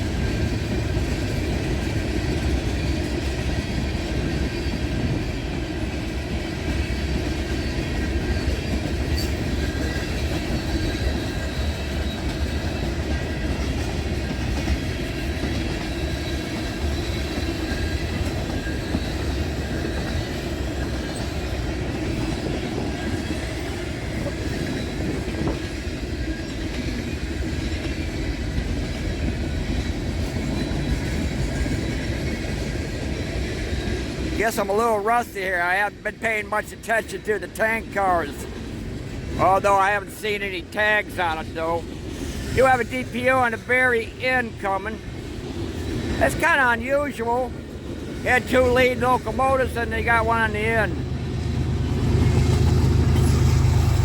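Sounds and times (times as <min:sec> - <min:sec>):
freight train rolling past: 0:00.0 - 0:54.0
train wheels clickety-clack: 0:00.0 - 0:54.0.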